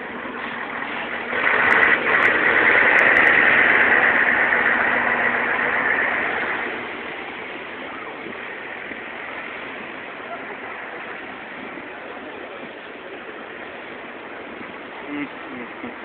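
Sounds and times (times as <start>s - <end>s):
traffic hum: 0.0s - 16.0s
vehicle engine running: 0.0s - 16.0s.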